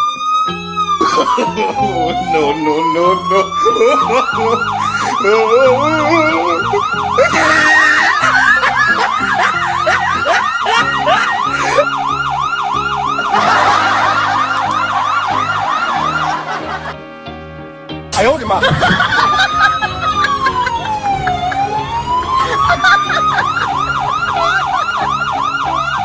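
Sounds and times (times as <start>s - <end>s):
electronic siren yelping: 0.0s - 17.1s, 18.7s - 26.0s
background music: 0.0s - 26.0s.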